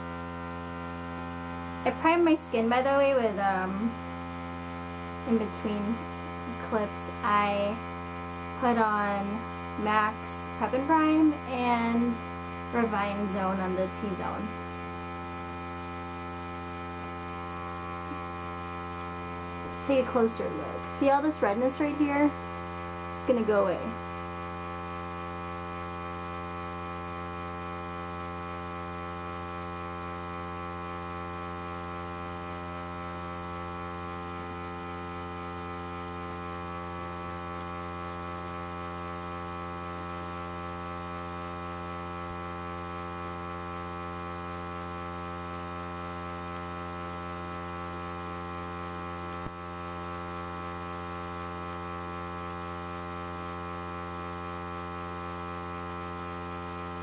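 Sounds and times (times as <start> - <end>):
airbrush compressor humming: 0.0 - 57.0.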